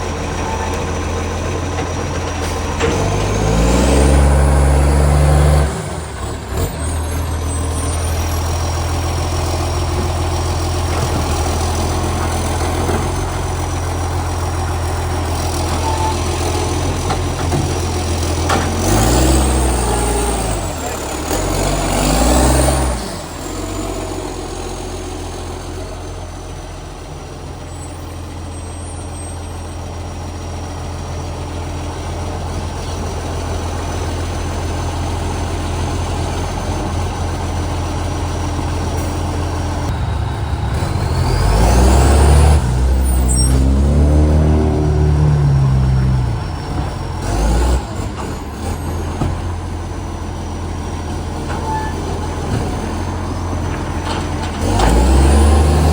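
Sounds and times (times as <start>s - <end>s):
loud diesel truck engine: 0.0s - 55.9s.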